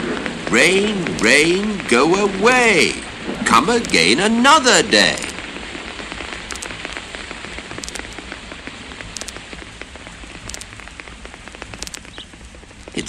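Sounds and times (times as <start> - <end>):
raindrops pattering on leaves: 0.0 - 13.0.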